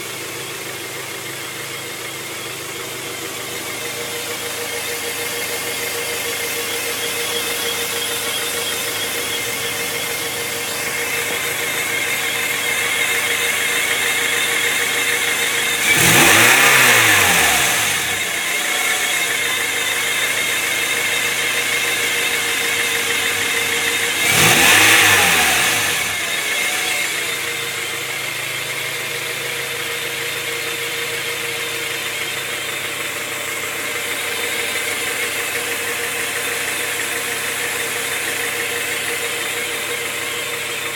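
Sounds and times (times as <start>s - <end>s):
car engine idling: 0.0s - 40.9s
engine revving: 2.6s - 40.9s.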